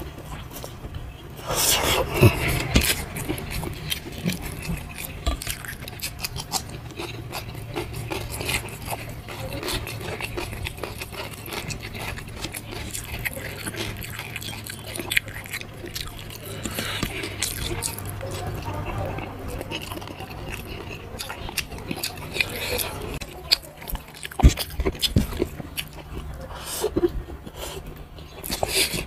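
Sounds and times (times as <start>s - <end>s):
chewing: 0.0s - 29.0s
steady low hum: 0.0s - 29.0s.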